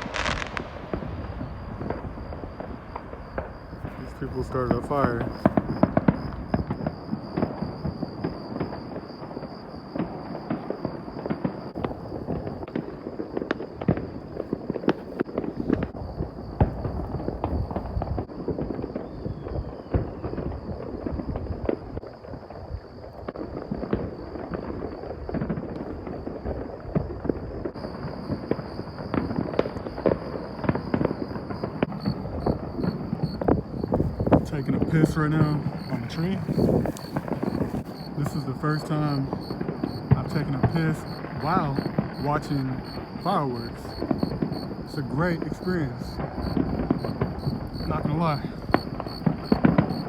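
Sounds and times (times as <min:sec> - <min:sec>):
fireworks crackling and banging: 0:00.0 - 0:50.0.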